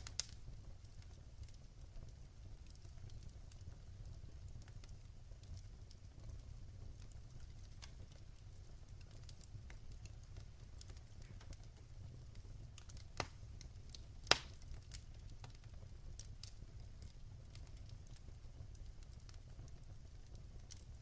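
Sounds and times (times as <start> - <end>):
fire pops and snaps: 0.0 - 21.0
wood fire crackling: 0.0 - 21.0.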